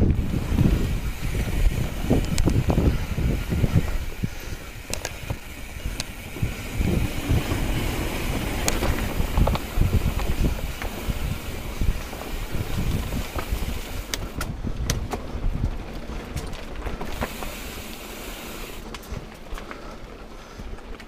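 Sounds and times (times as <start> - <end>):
wind on microphone: 0.0 - 17.2
bike clicking and rattling: 0.0 - 21.0
bike tyre rumble on rocky trail: 0.0 - 21.0.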